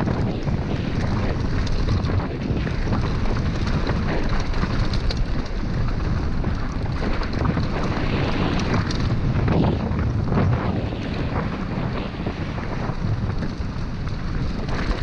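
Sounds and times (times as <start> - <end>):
bike knocks and rattles: 0.0 - 10.4, 13.0 - 15.0
tyres roaring on gravel: 0.0 - 15.0
wind buffeting microphone: 0.0 - 15.0.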